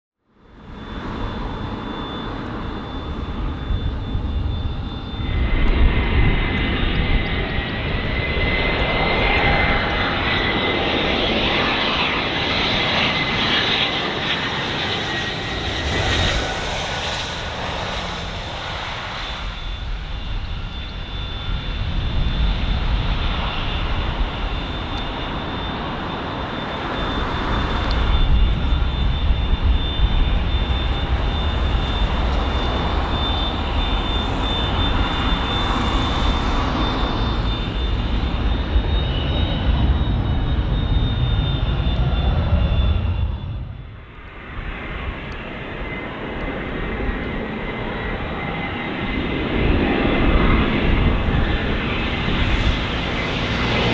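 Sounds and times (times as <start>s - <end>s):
jet turbine whine: 0.2s - 53.9s
deep jet rumble: 0.5s - 53.9s
jet engines spooling up: 0.5s - 53.9s.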